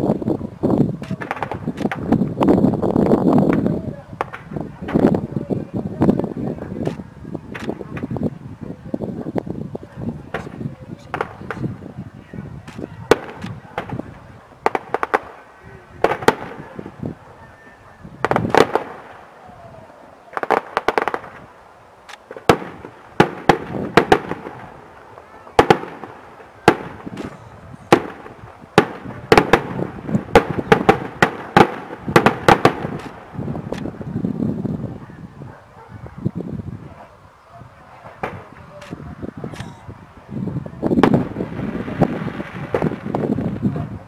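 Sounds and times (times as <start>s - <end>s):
fireworks bangs and crackling: 0.0s - 37.0s, 37.7s - 44.0s.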